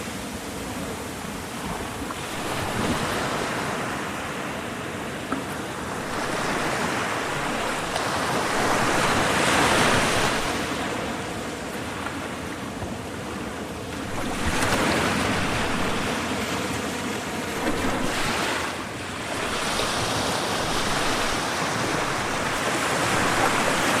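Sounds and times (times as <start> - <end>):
ocean waves breaking on shore: 0.0 - 24.0.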